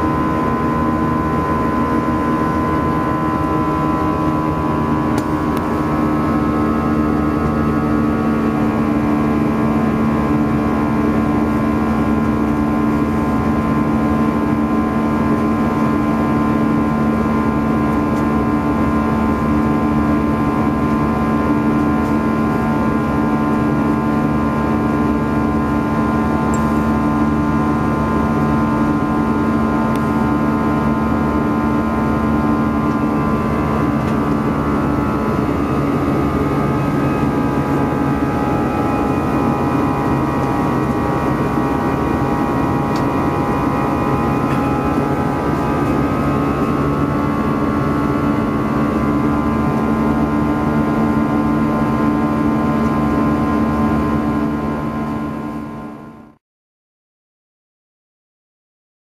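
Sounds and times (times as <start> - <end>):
jet engine drone in cabin: 0.0 - 56.4.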